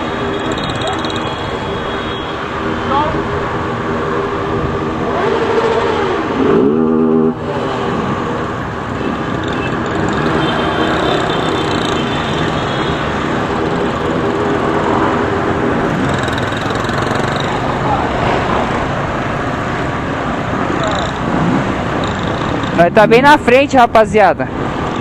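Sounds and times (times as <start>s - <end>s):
motorcycle engines revving: 0.0s - 23.3s.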